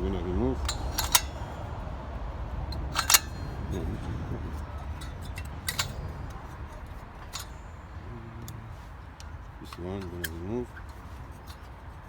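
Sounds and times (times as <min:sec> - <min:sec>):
hand tools clinking on metal: 0:00.0 - 0:01.8, 0:02.6 - 0:12.0.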